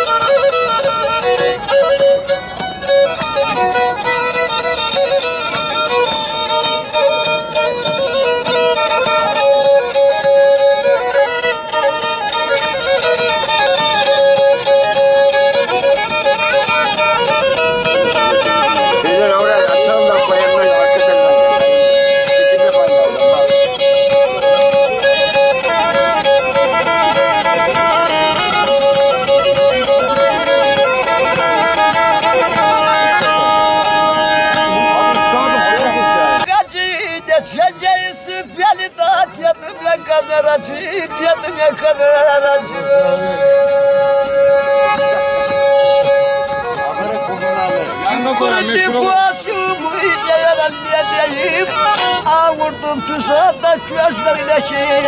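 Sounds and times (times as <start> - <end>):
bowed fiddle folk melody: 0.0 - 55.0.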